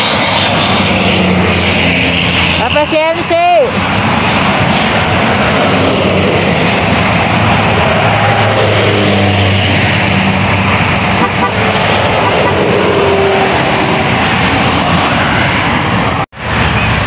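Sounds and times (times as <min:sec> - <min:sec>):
bus engine hum: 0:00.0 - 0:17.0
highway traffic rushing past: 0:00.0 - 0:17.0
roar of tyres and wind: 0:00.0 - 0:17.0.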